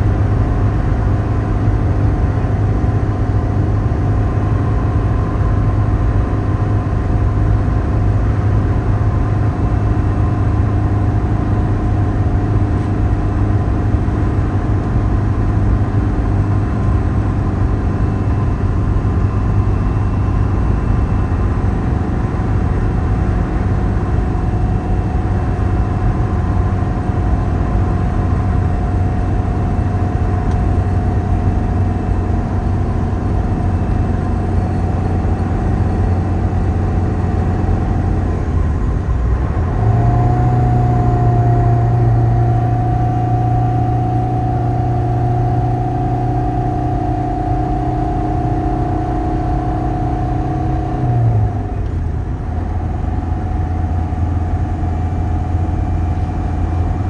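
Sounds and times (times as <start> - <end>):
vehicle road and engine rumble: 0.0 - 57.0.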